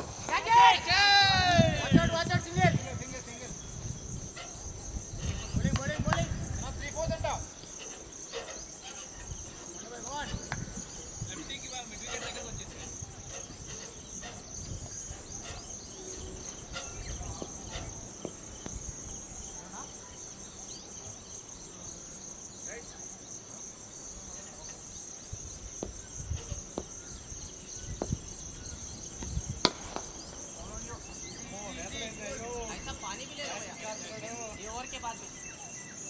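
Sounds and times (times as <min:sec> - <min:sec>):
insects trilling: 0:00.0 - 0:36.0.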